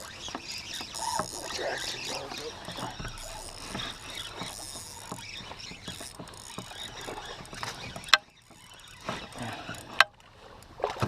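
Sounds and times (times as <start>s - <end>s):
fishing reel clicking: 0.0s - 10.8s.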